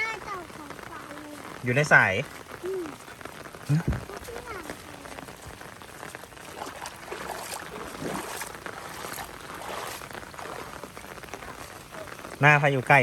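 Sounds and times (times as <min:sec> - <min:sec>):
rain falling: 0:00.0 - 0:13.0
water running: 0:00.0 - 0:13.0.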